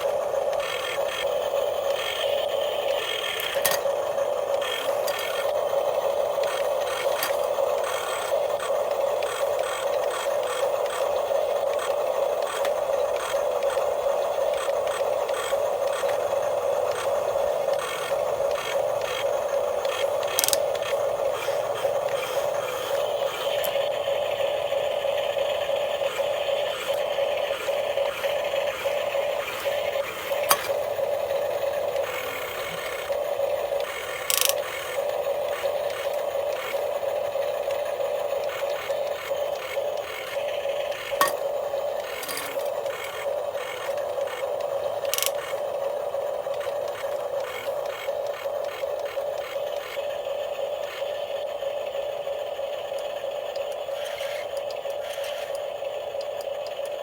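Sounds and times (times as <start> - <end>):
electric motor whining: 0.0 - 57.0
sharp clicks: 0.1 - 13.9, 14.5 - 23.9, 26.0 - 50.0, 52.9 - 57.0.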